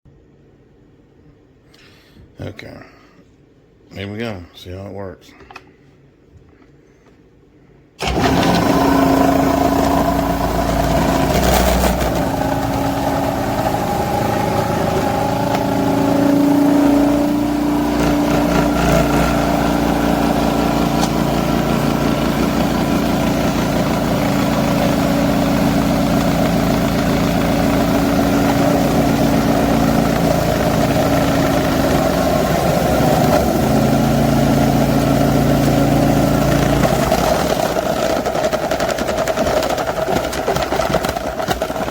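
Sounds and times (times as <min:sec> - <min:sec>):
food processor motor running: 0:08.0 - 0:41.9.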